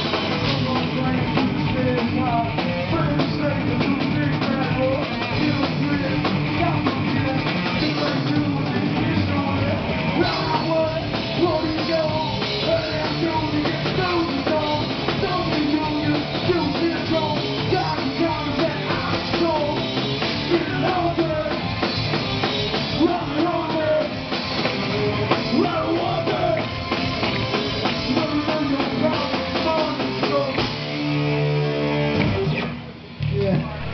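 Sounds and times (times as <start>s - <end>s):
bass guitar: 0.0s - 33.9s
distorted electric guitar: 0.0s - 33.9s
drum kit: 0.0s - 33.9s
person singing through pa: 0.3s - 21.8s, 22.9s - 24.3s, 25.0s - 26.8s, 27.8s - 30.7s.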